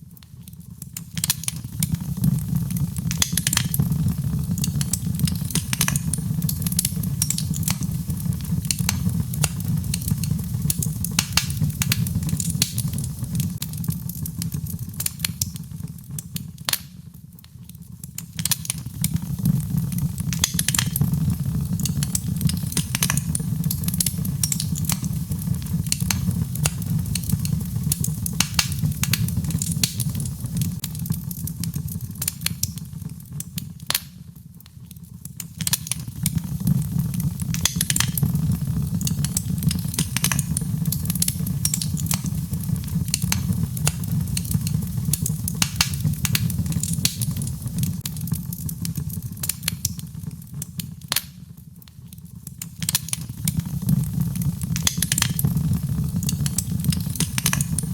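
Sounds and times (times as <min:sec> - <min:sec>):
logs crackling and popping in fireplace: 0:00.0 - 0:57.9
low steady fire rumble: 0:00.0 - 0:57.9.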